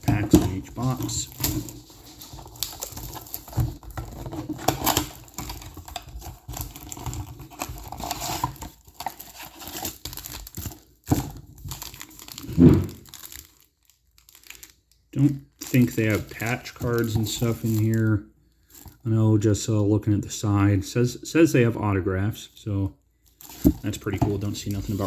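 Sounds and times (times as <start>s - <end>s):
foil wrappers crinkling and tearing: 0.0s - 19.0s, 23.2s - 25.0s.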